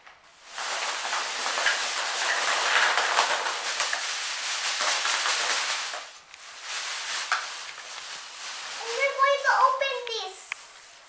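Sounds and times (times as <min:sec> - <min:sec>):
plastic packaging crinkling: 0:00.4 - 0:11.0.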